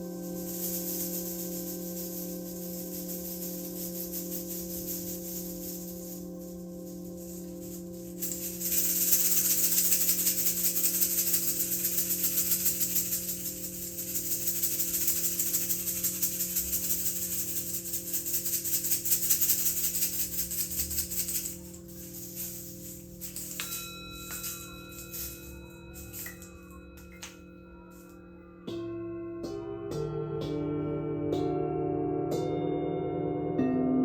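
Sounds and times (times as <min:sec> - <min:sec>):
hand rattle shaken rapidly: 0:00.0 - 0:27.4.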